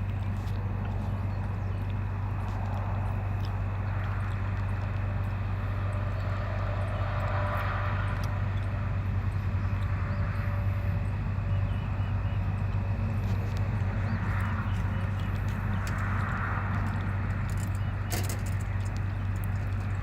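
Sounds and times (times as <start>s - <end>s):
low vehicle rumble: 0.0s - 20.0s.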